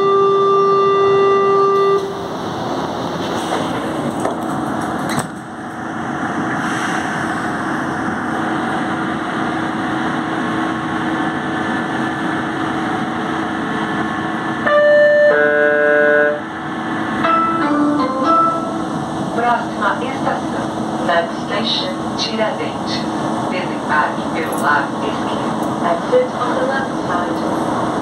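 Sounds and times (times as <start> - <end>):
train equipment hum: 0.0 - 28.0.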